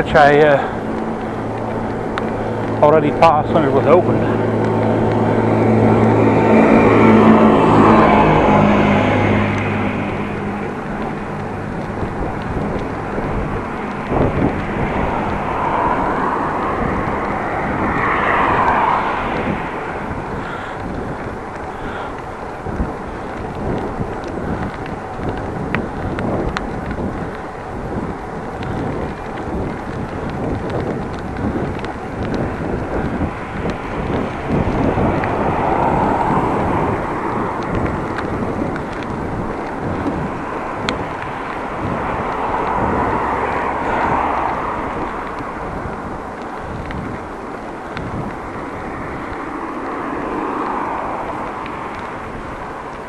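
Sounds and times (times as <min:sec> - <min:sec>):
road noise: 0:00.0 - 0:53.0
rushing wind: 0:00.0 - 0:53.0.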